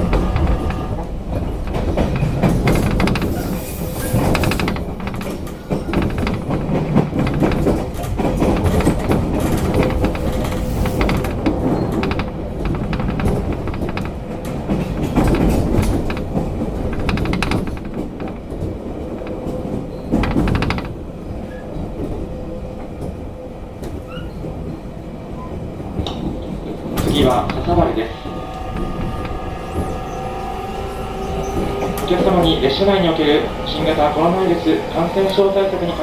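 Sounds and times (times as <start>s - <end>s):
train motor hum: 0.0s - 24.8s, 25.7s - 36.0s
rail-joint clicks: 0.0s - 36.0s
train wheels on rails: 0.0s - 36.0s.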